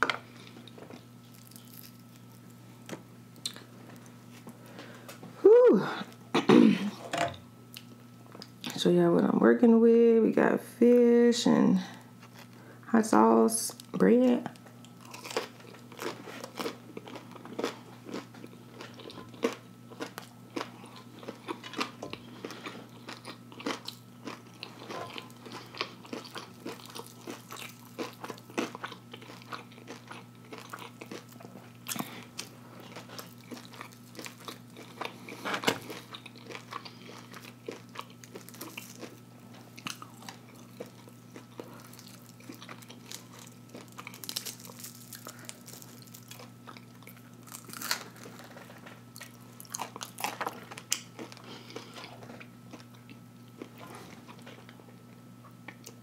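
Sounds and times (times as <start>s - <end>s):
crunching and chewing: 0.0s - 5.2s, 7.7s - 8.8s, 12.2s - 12.6s, 13.7s - 56.0s
steady low hum: 0.0s - 56.0s.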